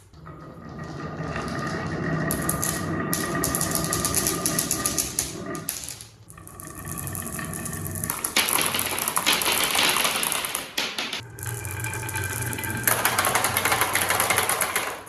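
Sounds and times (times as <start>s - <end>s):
marbles rolling down wooden track: 0.2s - 15.0s.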